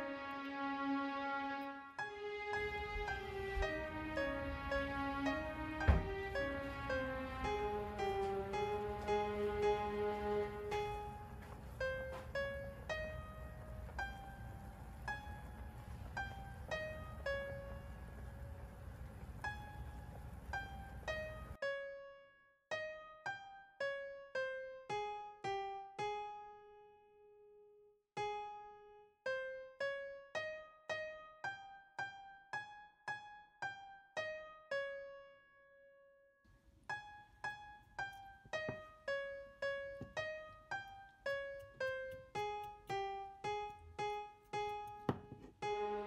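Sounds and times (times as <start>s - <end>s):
gentle piano-like melody: 0.0s - 46.0s.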